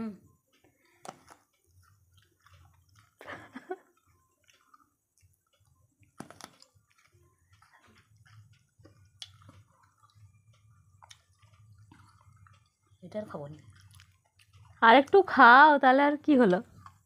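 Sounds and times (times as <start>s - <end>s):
chewing crunches: 1.0s - 14.8s.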